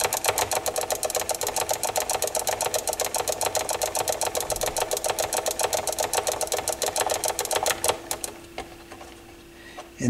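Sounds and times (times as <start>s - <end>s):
small machine clicking rapidly: 0.0s - 8.4s
steady hum: 0.0s - 10.0s.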